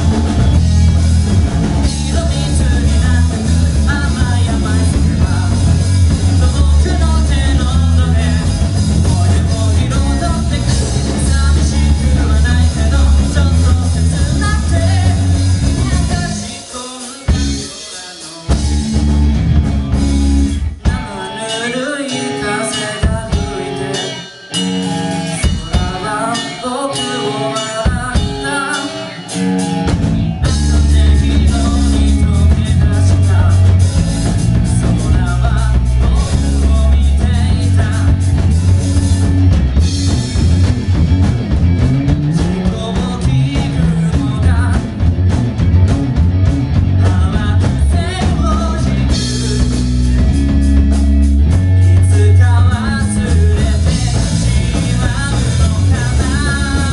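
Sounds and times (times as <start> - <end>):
live rock band playing: 0.0 - 56.9
person singing: 1.8 - 18.7, 20.8 - 24.3, 24.9 - 38.7, 42.3 - 45.0, 46.9 - 50.6, 51.9 - 56.9.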